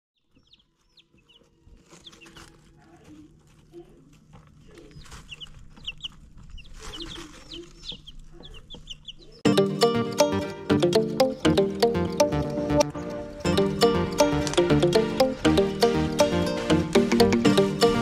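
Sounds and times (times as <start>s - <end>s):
baby chicks peeping: 0.2s - 18.0s.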